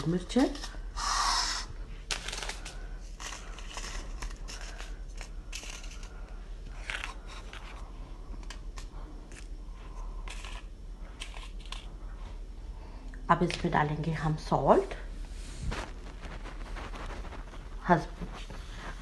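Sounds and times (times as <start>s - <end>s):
dry chillies crackling and rustling: 0.0s - 12.0s, 13.4s - 19.0s.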